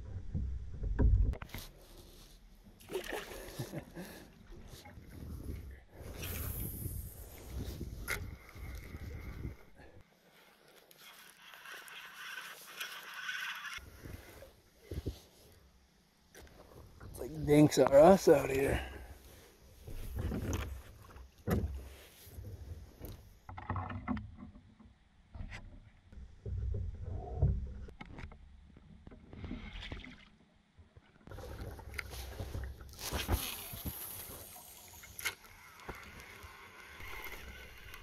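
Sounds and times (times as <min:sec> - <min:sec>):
water against hull: 0:00.0 - 0:38.0.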